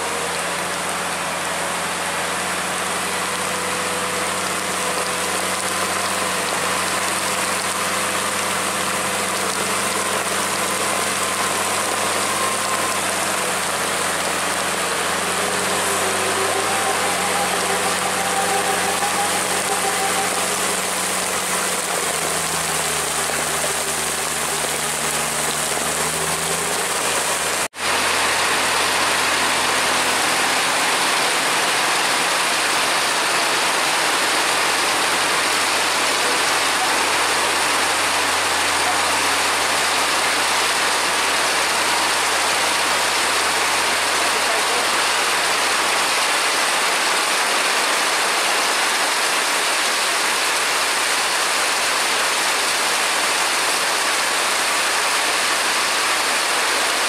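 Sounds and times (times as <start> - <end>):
truck engine running: 0.0 - 49.0
heavy rain falling: 0.0 - 57.0.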